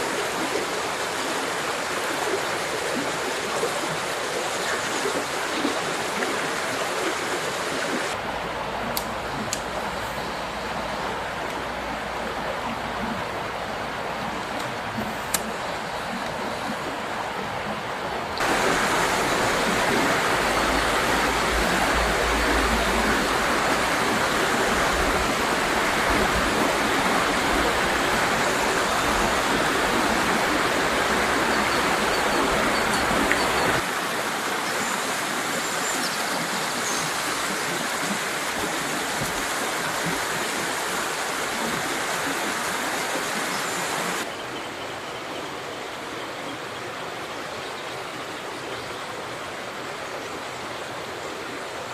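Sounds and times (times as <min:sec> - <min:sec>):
river rushing over rocks: 0:00.0 - 0:44.3.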